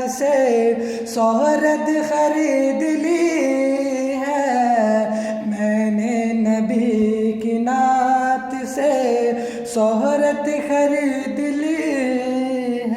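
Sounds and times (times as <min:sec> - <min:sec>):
person singing devotional song: 0:00.0 - 0:12.9.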